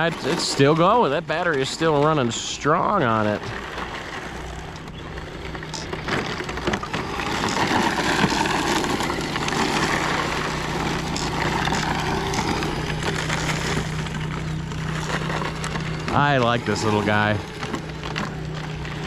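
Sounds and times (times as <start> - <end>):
electric motor hum: 0.0 - 19.0
tyres crunching on dirt: 0.0 - 19.0.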